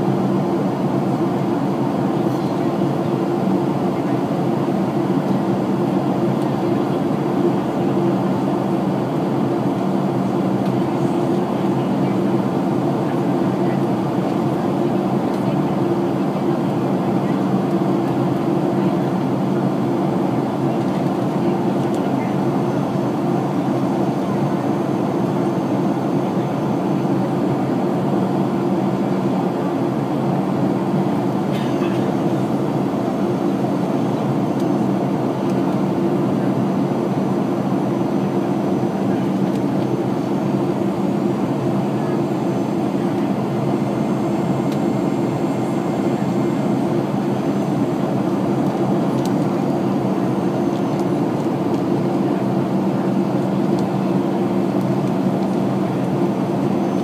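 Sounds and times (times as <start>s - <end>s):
engine drone: 0.0s - 57.0s.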